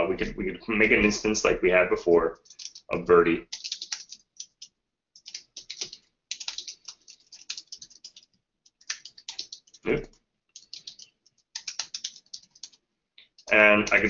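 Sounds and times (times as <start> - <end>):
fast typing on a keyboard: 2.4 - 14.0.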